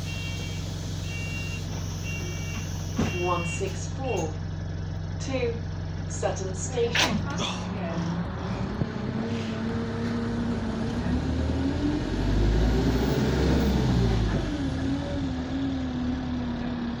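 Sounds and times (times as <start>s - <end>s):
bus diesel engine: 0.0s - 17.0s.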